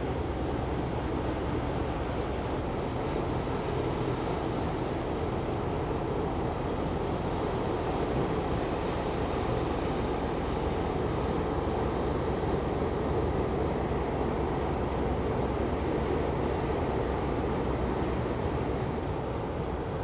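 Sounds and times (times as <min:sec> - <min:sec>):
ship engine rumble: 0:00.0 - 0:20.0.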